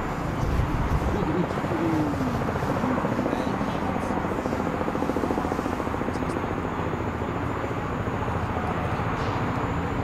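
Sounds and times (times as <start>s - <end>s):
propeller engines droning: 0.0s - 10.0s.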